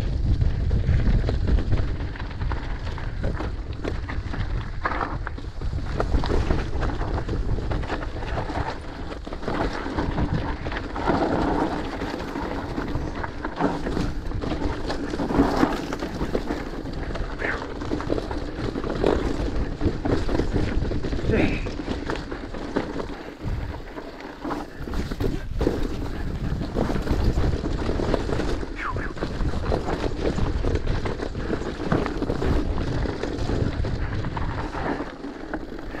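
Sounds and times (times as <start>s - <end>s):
bike rattling: 0.0s - 36.0s
tyres crunching over loose stones: 0.0s - 36.0s
wind rumble on microphone: 0.0s - 36.0s.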